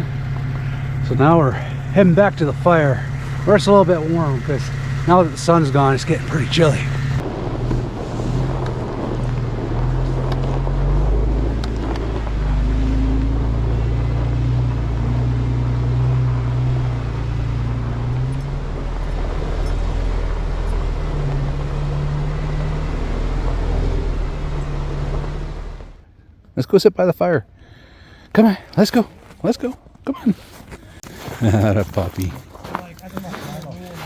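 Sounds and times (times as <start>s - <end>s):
road and tyre noise: 0.0s - 34.0s
vehicle engine humming: 0.0s - 34.0s.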